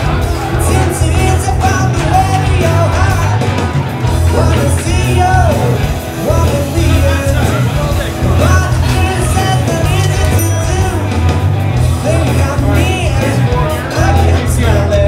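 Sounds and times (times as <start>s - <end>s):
heavy pulsing bass line: 0.0s - 15.0s
rock band playing: 0.0s - 15.0s
person singing: 0.3s - 15.0s.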